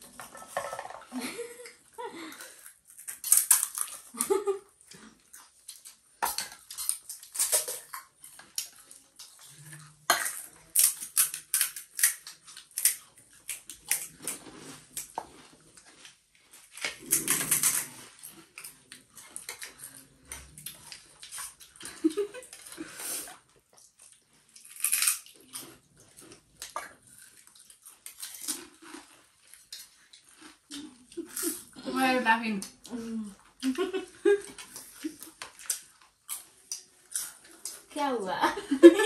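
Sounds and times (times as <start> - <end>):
wet chewing: 1.5 - 31.8, 32.6 - 37.9.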